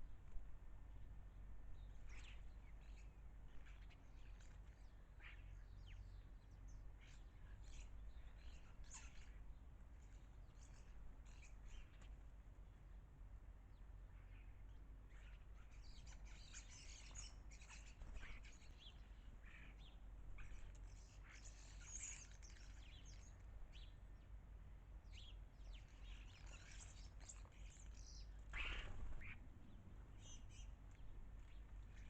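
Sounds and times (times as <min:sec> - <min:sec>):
faint low hum: 0:00.0 - 0:32.0
birds chirping and trilling: 0:01.6 - 0:12.4, 0:13.6 - 0:24.4, 0:25.0 - 0:32.0.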